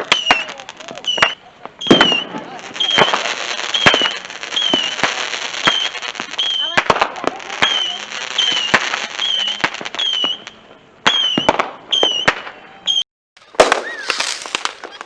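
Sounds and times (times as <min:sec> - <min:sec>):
fireworks bangs: 0:00.0 - 0:15.0
fireworks whistling: 0:00.0 - 0:15.0.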